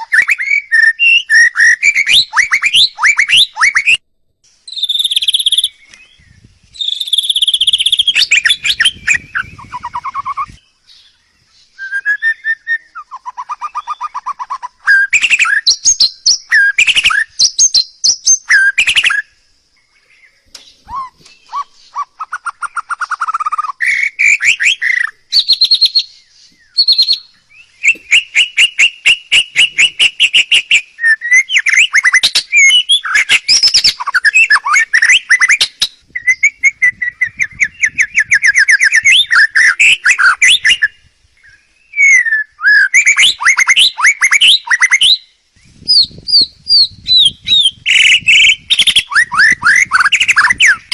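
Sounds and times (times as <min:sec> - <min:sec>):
songbird singing trills: 0:00.0 - 0:50.9.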